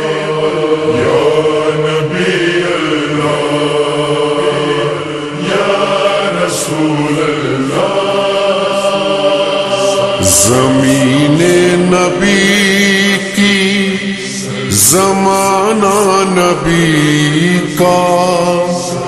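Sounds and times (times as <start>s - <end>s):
voices droning with reverb: 0.0s - 19.0s.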